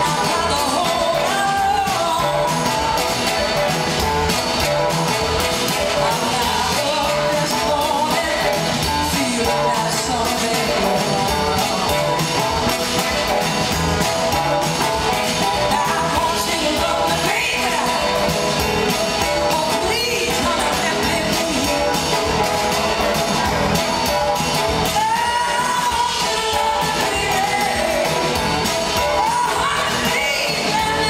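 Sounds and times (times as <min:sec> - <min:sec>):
woman singing: 0:00.0 - 0:04.7, 0:05.4 - 0:13.4, 0:14.0 - 0:31.0
live blues-rock band: 0:00.0 - 0:31.0.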